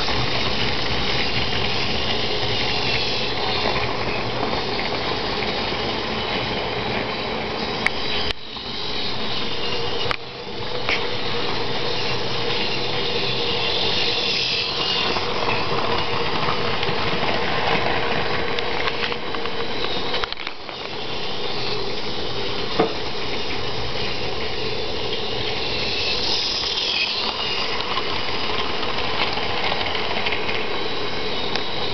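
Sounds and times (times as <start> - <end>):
model train motor hum: 0.0 - 31.9
wheels rolling on track: 0.0 - 31.9.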